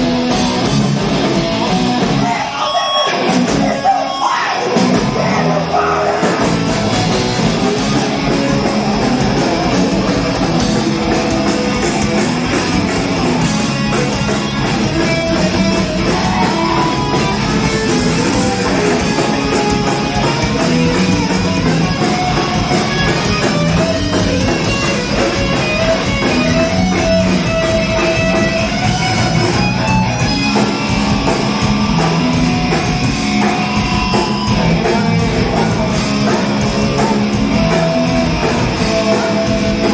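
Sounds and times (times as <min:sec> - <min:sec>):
drum kit: 0:00.0 - 0:04.0, 0:04.6 - 0:39.9
electric guitar: 0:00.0 - 0:39.9
rock band playing live: 0:00.0 - 0:39.9.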